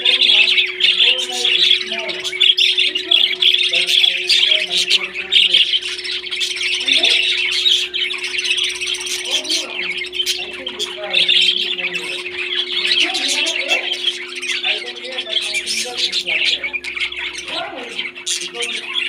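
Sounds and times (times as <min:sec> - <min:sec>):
parrots chattering and squawking: 0:00.0 - 0:19.0.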